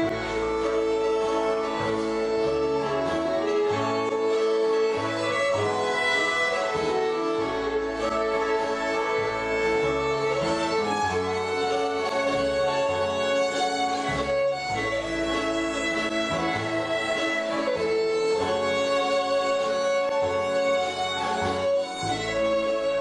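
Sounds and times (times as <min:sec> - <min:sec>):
double bass notes: 0:00.0 - 0:23.0
fiddle melody: 0:00.0 - 0:23.0.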